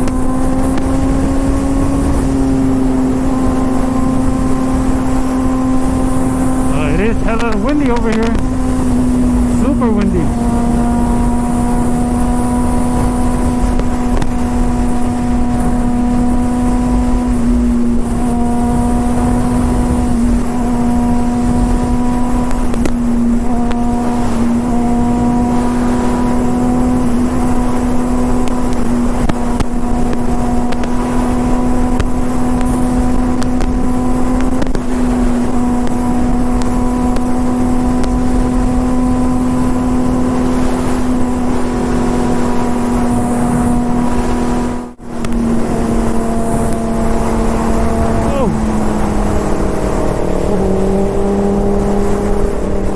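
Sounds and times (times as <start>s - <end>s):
motorcycle engine cruising: 0.0s - 52.9s
wind rumbling on microphone: 0.0s - 52.9s.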